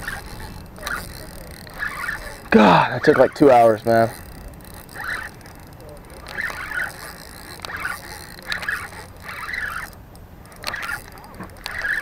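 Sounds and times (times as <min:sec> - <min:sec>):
fishing reel buzzing: 0:00.0 - 0:12.0
fishing reel clicks: 0:00.0 - 0:12.0.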